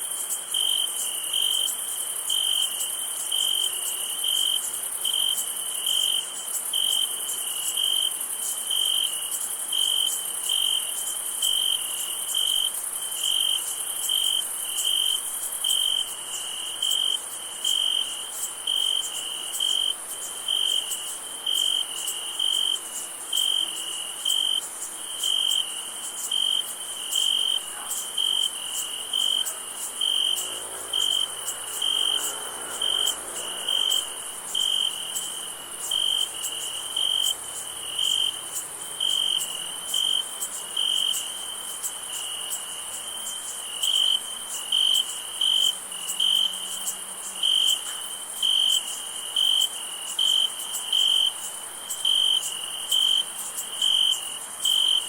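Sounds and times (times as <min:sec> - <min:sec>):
continuous insect trill: 0:00.0 - 0:55.0
cricket chirping: 0:00.0 - 0:55.0.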